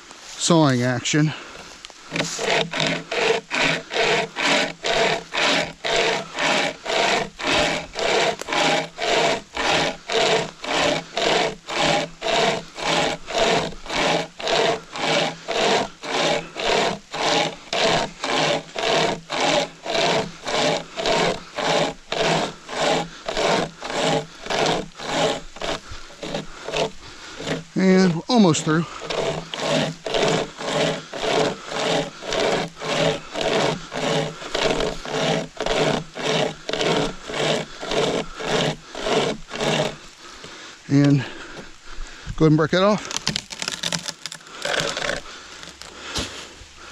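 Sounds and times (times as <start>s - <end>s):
hand saw chain rasping through wood: 0.4s - 41.6s, 42.4s - 46.4s.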